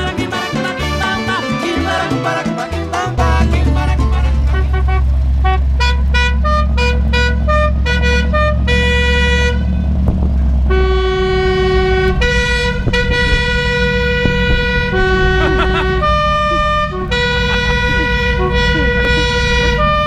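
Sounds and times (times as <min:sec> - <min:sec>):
vehicle horns honking: 0:00.0 - 0:02.4, 0:03.2 - 0:20.0
engine low hum: 0:02.8 - 0:20.0.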